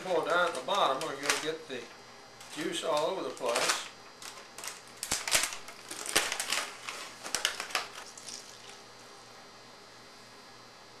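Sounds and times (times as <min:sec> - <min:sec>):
aluminium foil crinkling: 0:00.0 - 0:08.8.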